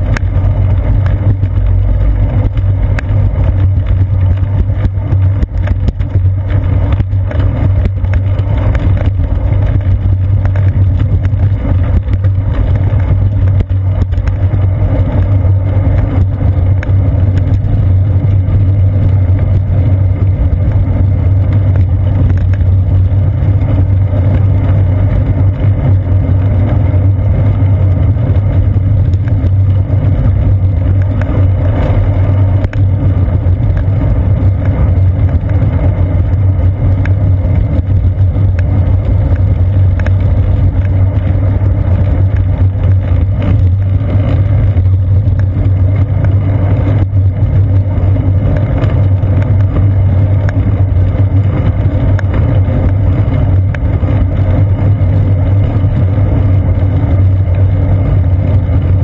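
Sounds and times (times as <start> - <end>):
bicycle road vibration: 0.0 - 59.0
wind rumble: 0.0 - 59.0.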